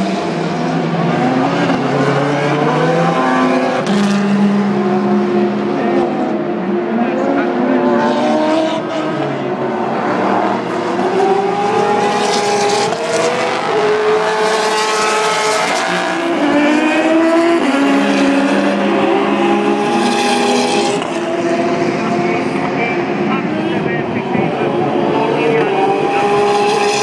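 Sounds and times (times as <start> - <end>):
racing car engines at full throttle: 0.0 - 27.0.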